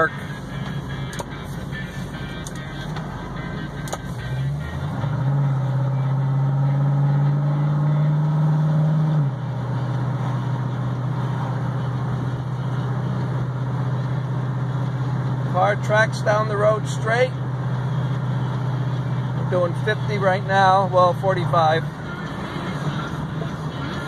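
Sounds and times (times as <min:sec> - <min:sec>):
car engine under throttle: 0:00.0 - 0:24.0.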